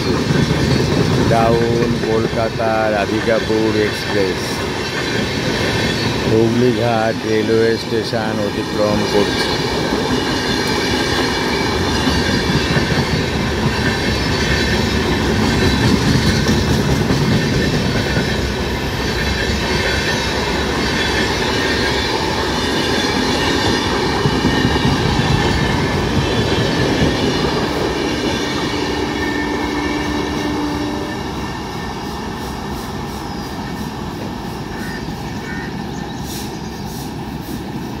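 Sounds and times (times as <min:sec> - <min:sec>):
train wheels rushing on rails: 0:00.0 - 0:38.0.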